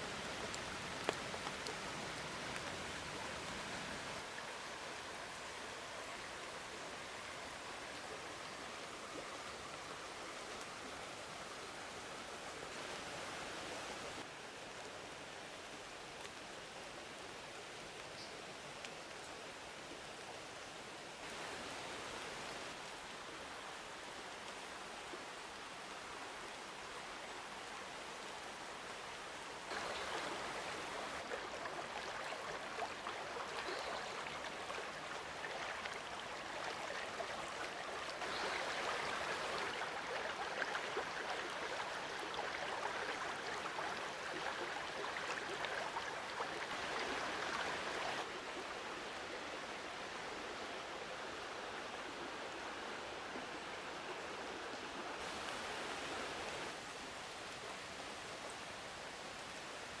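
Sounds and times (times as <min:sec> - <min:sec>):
mountain stream flowing: 0:00.0 - 1:00.0.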